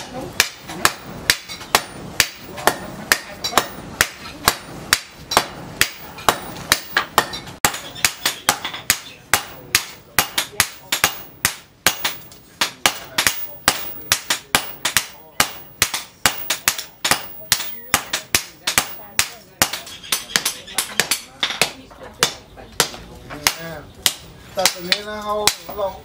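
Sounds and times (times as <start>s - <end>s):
hammer striking hot metal on anvil: 0.4s - 25.9s.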